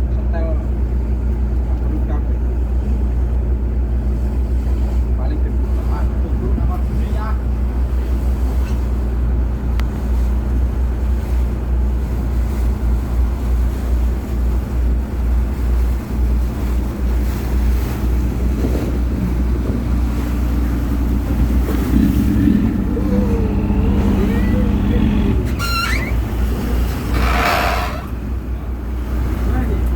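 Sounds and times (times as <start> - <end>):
boat engine humming: 0.0 - 29.9
water noise: 0.0 - 29.9
wind: 0.0 - 29.9.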